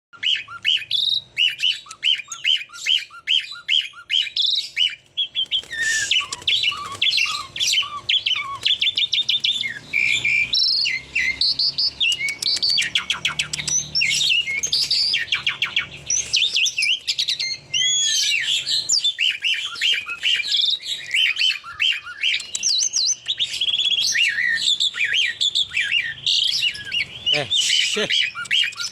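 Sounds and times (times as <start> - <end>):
starling singing: 0.2 - 28.9.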